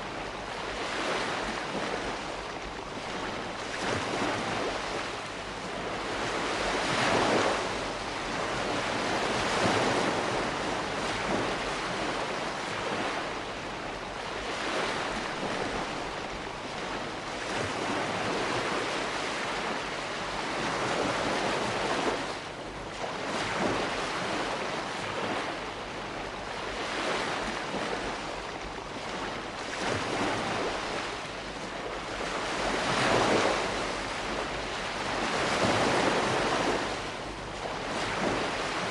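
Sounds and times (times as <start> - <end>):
small waves washing in: 0.0 - 38.9.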